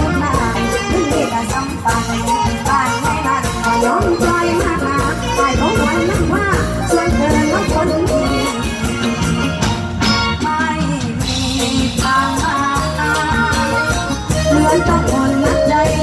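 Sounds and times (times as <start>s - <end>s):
woman singing into a microphone: 0.0s - 9.0s, 10.1s - 16.0s
live band dance music: 0.0s - 16.0s.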